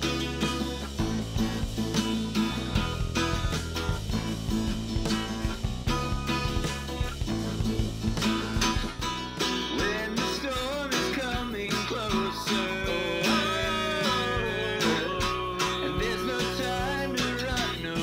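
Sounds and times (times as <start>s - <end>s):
guitar with bending lines: 0.0s - 18.0s
steady drum beat: 0.0s - 18.0s.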